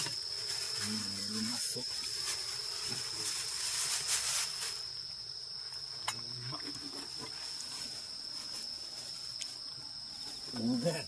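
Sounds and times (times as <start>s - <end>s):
crickets chirring: 0.0s - 11.0s
noisy hiss: 0.0s - 11.0s.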